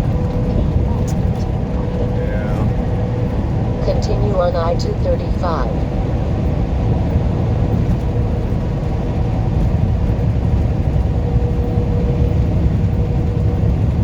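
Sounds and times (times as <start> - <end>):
truck diesel engine drone: 0.0 - 14.0.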